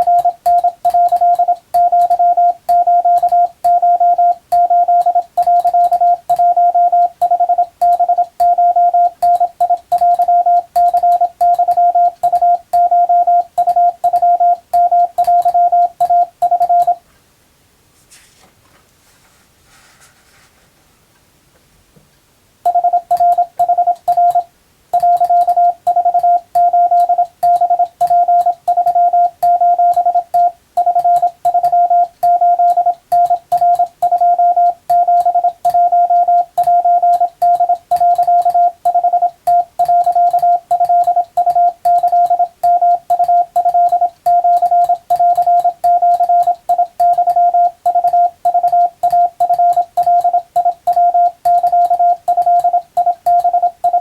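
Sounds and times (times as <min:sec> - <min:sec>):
morse code beeping tone: 0:00.0 - 0:17.0, 0:22.7 - 0:54.0.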